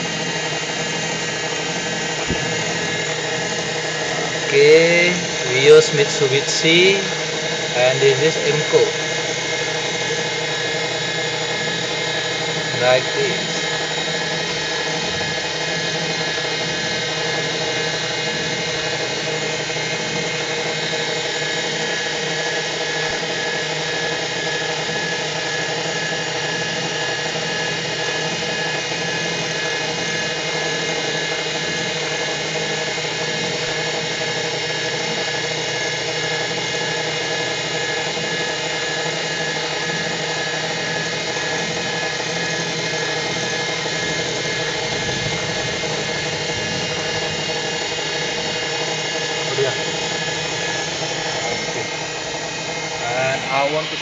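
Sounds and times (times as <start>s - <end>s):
milling machine spindle whine: 0.0s - 54.0s.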